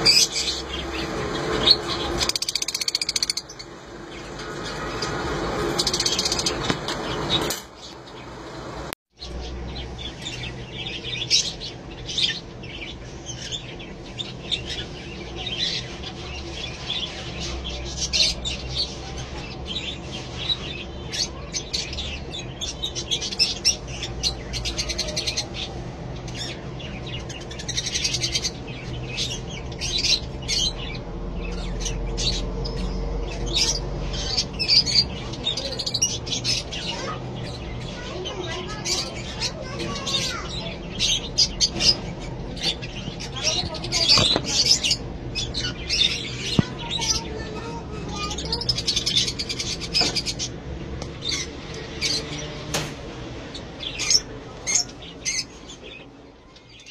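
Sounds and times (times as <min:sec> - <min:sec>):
lovebirds chirping: 0:00.0 - 0:08.6, 0:09.2 - 0:56.9.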